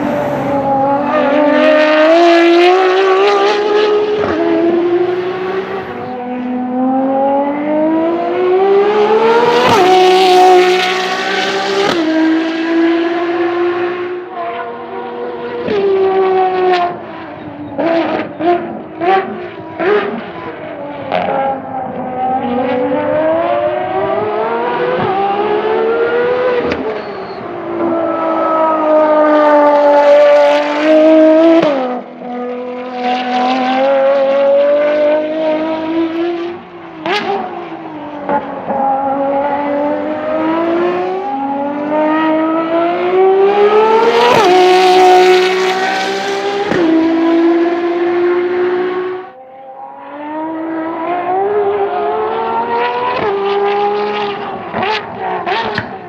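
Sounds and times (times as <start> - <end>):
car engine accelerating through gears: 0.0 - 56.0.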